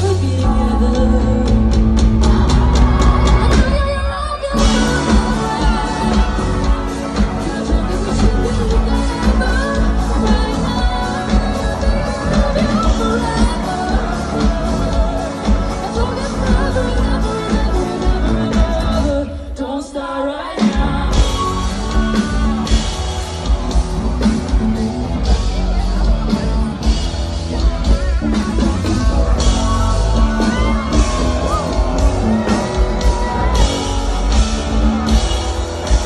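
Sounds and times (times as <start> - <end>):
woman singing: 0.0 - 24.7, 25.3 - 35.4
live pop-rock band: 0.0 - 36.0.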